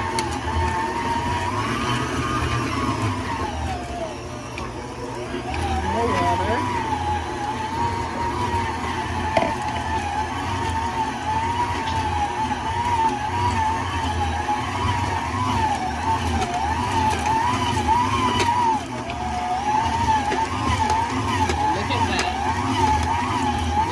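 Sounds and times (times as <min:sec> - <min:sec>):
food processor motor whining: 0:00.0 - 0:23.9.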